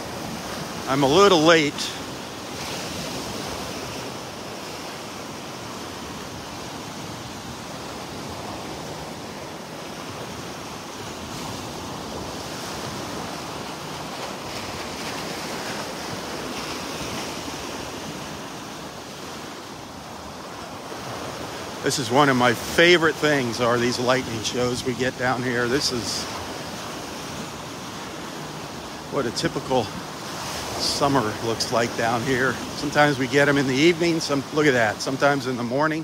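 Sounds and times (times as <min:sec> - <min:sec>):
surf breaking on beach: 0:00.0 - 0:36.0
wind: 0:00.0 - 0:36.0.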